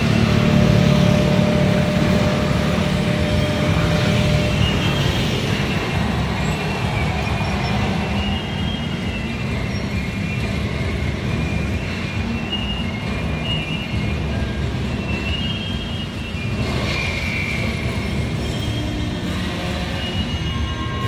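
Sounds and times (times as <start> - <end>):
train rumbling: 0.0 - 21.0
train wheel squeals: 0.0 - 21.0.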